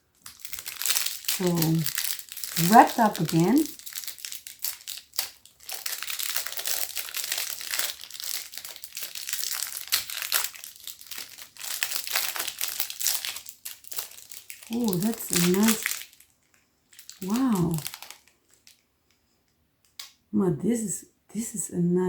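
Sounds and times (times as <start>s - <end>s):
plastic pouch crinkling: 0.0s - 19.2s.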